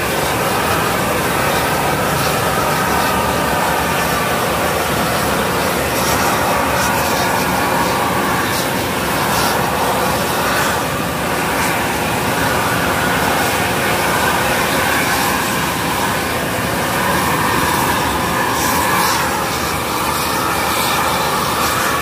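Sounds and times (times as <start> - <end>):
loud mechanical drone: 0.0 - 22.0.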